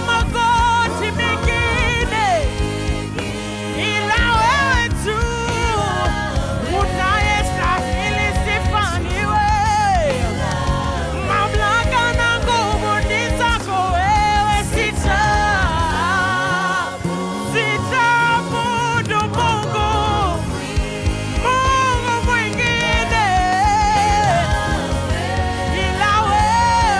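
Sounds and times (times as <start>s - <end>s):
bass: 0.0s - 26.9s
drums: 0.0s - 26.9s
keyboard: 0.0s - 26.9s
singers: 0.0s - 26.9s.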